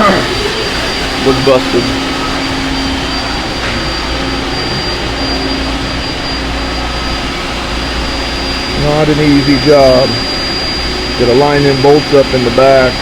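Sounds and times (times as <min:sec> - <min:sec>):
industrial machinery droning: 0:00.0 - 0:13.0.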